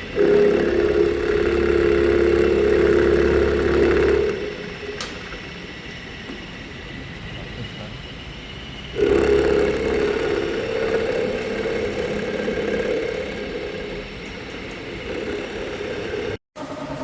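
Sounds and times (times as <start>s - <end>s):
machine running with even pulsing: 0.0s - 17.0s
milling machine gear whine: 0.0s - 17.0s.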